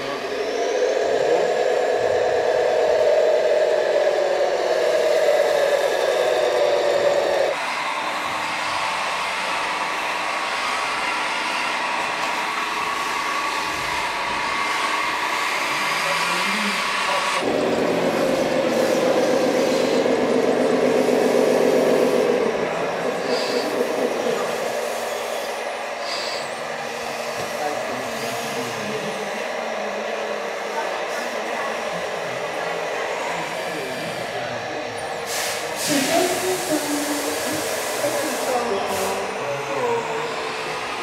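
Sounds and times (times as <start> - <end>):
hydraulic pump humming: 0.0 - 41.0.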